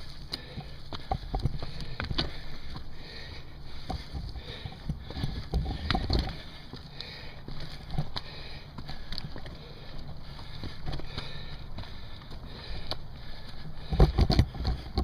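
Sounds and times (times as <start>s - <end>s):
bike knocking and rattling: 0.0s - 15.0s
bike tyres rumbling on rough ground: 0.0s - 15.0s.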